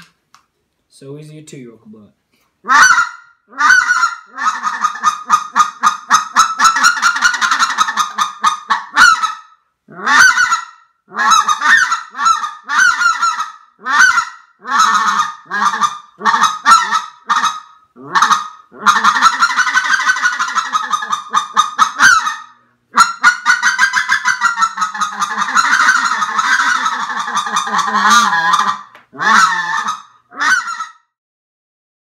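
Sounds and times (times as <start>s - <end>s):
goose call chattering: 2.6s - 31.0s.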